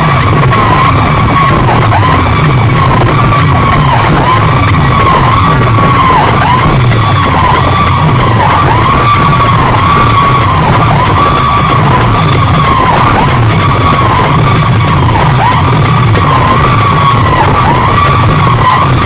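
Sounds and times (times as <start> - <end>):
distorted electronic tone: 0.0 - 19.0
repeating bass pattern: 0.0 - 19.0.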